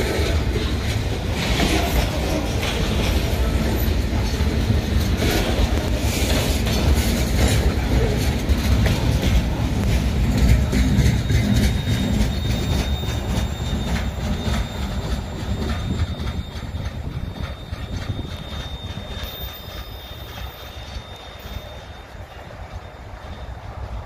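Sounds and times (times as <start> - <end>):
high wheel squeal: 0.0 - 24.0
train wheels clacking over rail joints: 0.0 - 24.0.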